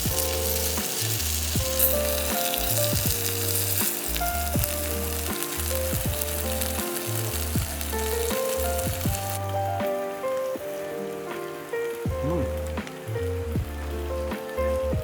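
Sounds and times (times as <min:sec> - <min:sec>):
background music: 0:00.0 - 0:15.0
food sizzling in a pan: 0:00.0 - 0:15.0.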